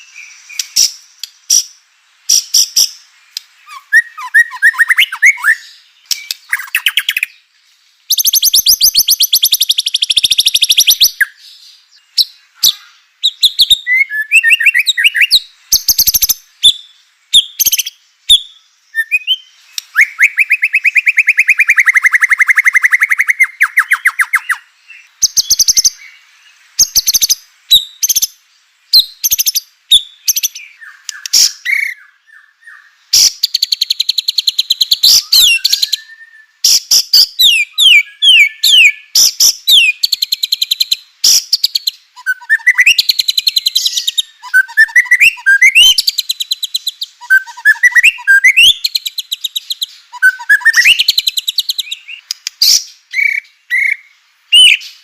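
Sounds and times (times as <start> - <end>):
songbird singing varied phrases: 0.0 - 55.0.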